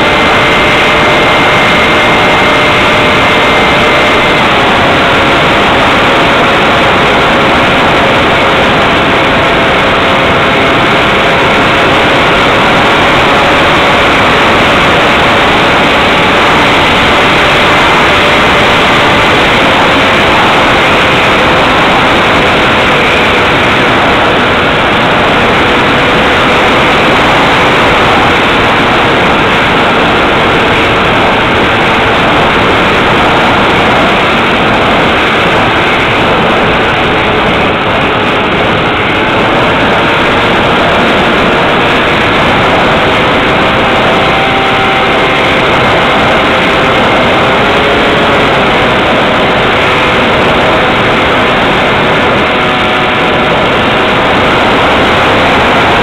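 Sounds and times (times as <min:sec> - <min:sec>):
model plane motor and propeller: 0:00.0 - 0:56.0
wind rush on microphone: 0:00.0 - 0:56.0.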